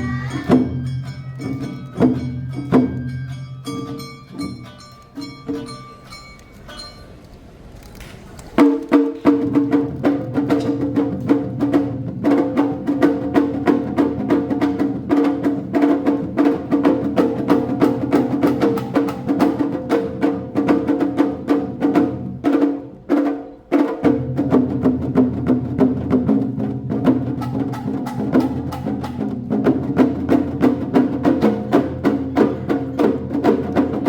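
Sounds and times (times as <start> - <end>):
festival band music: 0.0 - 7.2, 8.6 - 34.0.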